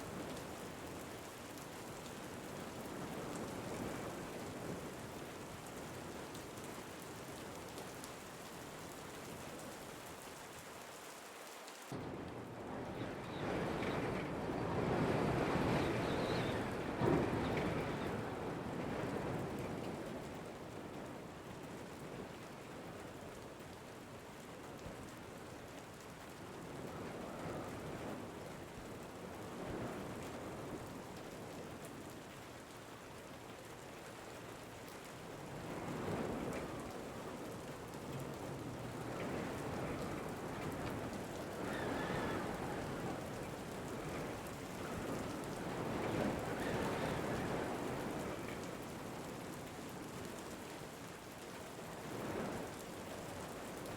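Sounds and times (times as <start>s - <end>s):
steady rain falling: 0.0s - 53.9s
wind: 0.0s - 53.9s.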